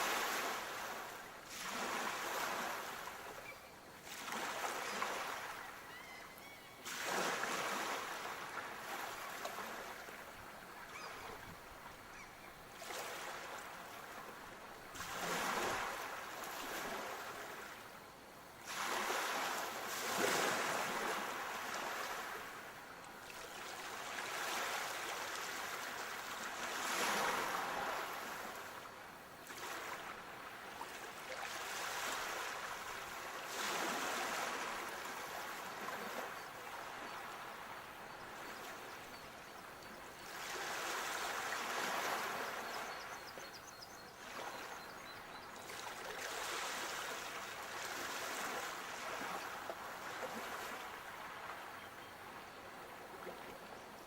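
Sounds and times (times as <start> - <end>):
sea waves breaking on shore: 0.0 - 43.6, 44.2 - 54.0.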